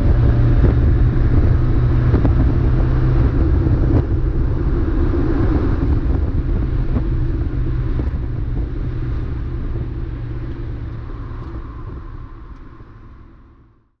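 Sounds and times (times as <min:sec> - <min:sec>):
race car engine rumbling: 0:00.0 - 0:13.9.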